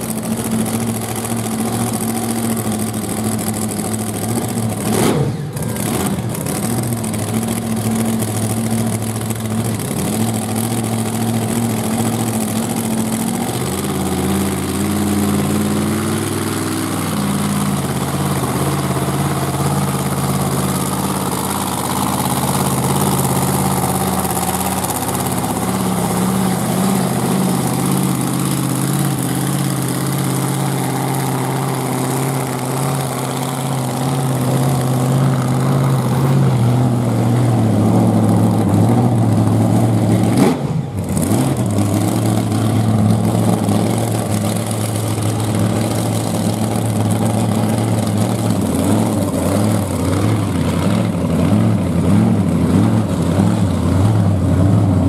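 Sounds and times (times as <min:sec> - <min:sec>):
truck engine running at low revs: 0:00.0 - 0:55.0.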